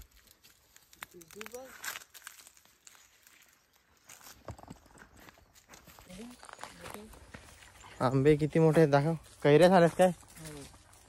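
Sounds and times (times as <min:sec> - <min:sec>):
footsteps crunching on dry leaves: 0:00.0 - 0:11.0.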